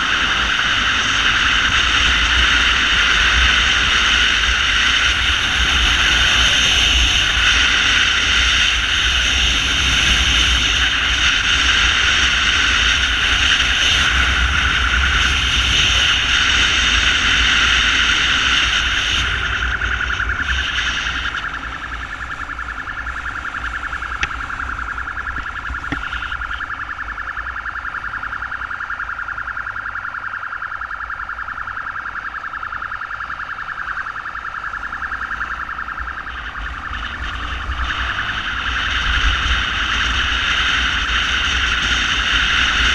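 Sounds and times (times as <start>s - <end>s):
motorcycle riding rumble and wind: 0.0s - 30.2s, 31.0s - 42.9s
pulsing emergency siren: 0.0s - 42.9s.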